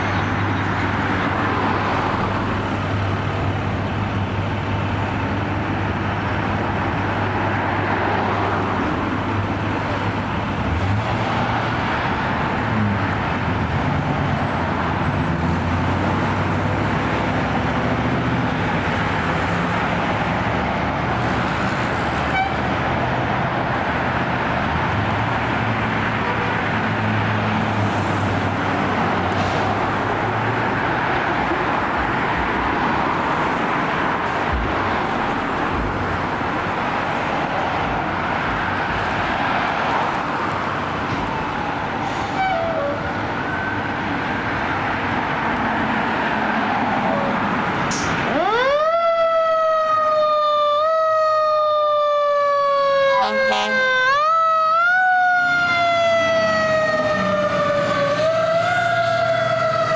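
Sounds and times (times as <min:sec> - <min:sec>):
street traffic: 0:00.0 - 0:59.9.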